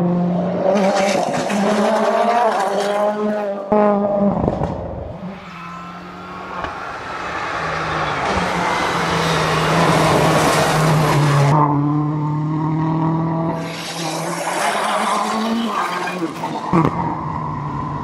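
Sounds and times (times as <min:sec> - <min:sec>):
rally car engine passing by: 0:00.0 - 0:18.0.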